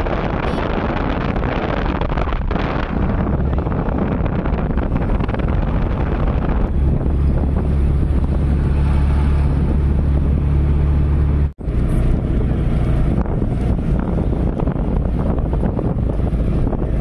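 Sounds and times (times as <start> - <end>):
auto-rickshaw engine drone: 0.0 - 17.0
road noise: 0.0 - 17.0
wind buffeting microphone: 0.0 - 17.0.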